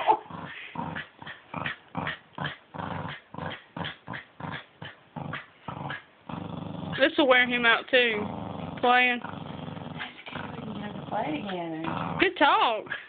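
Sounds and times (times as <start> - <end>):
dog play growling: 0.0 - 13.0.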